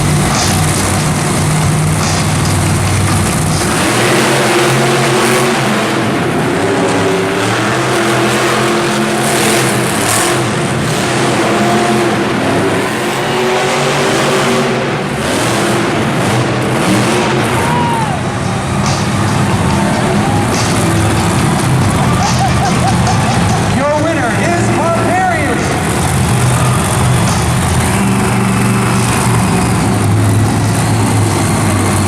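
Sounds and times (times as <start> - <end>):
monster truck engines revving: 0.0 - 32.0.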